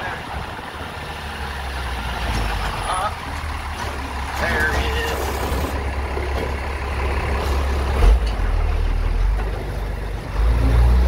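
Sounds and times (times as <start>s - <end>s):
vehicle engine on dirt track: 0.0s - 11.0s.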